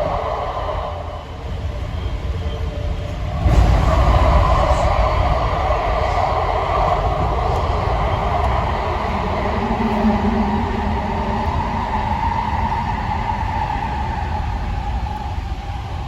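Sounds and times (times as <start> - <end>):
train car rumbling and whirring: 0.0 - 16.0.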